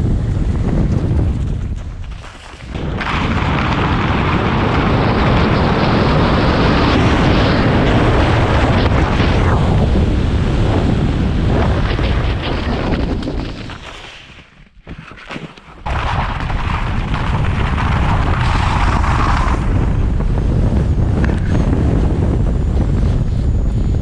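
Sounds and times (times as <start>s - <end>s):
wind rushing over microphone: 0.0s - 14.0s, 15.8s - 24.0s.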